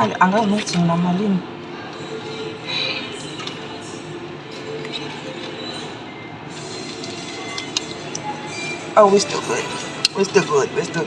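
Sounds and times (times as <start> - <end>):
indistinct voices: 0.0 - 11.0.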